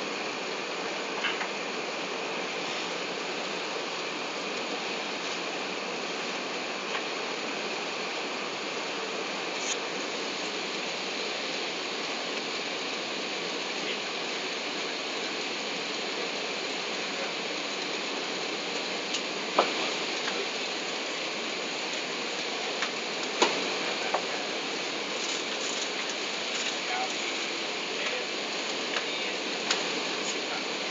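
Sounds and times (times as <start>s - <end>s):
airplane cabin noise: 0.0s - 30.9s.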